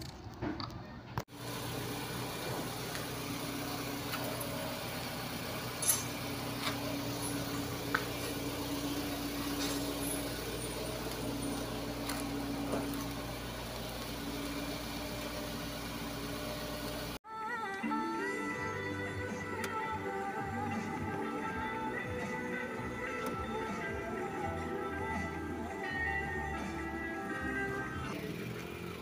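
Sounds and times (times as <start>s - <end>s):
car engine idling: 1.3s - 17.2s, 18.7s - 29.0s.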